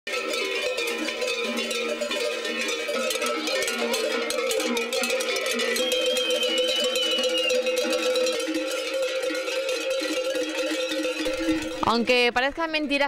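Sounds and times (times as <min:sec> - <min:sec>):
cowbells clanging: 0:00.1 - 0:13.0.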